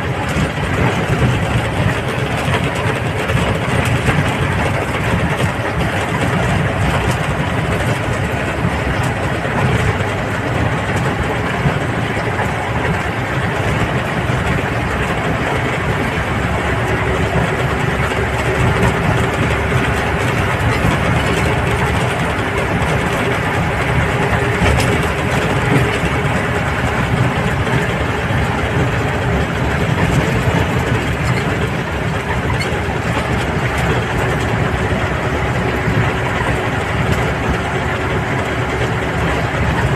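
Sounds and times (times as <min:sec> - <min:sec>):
motorcycle engine running: 0:00.0 - 0:39.9
road noise rumbling: 0:00.0 - 0:39.9.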